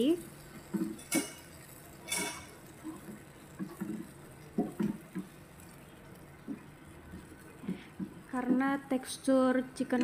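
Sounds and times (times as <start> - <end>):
spatula stirring thick sauce: 0.2 - 8.6.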